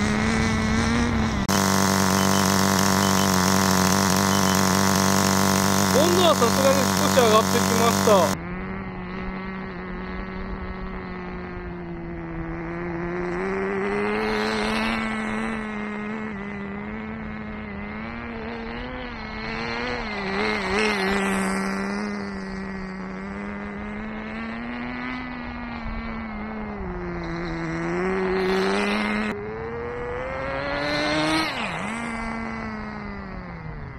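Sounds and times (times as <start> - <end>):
rc car engine buzzing: 0.0 - 33.9.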